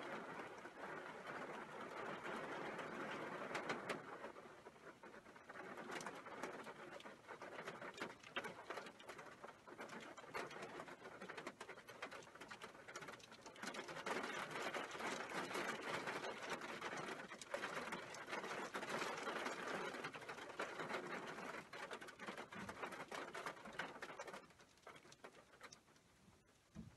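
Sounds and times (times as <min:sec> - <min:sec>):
heavy rain with hail: 0:00.0 - 0:26.8.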